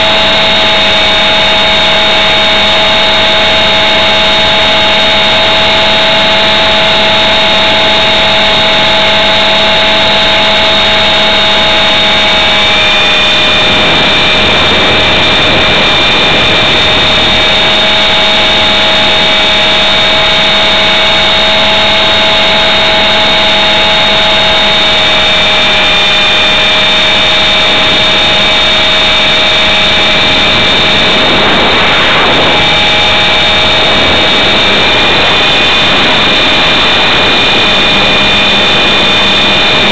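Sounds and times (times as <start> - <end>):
rc helicopter motor whine: 0.0 - 39.9
rotor wash noise: 0.0 - 39.9.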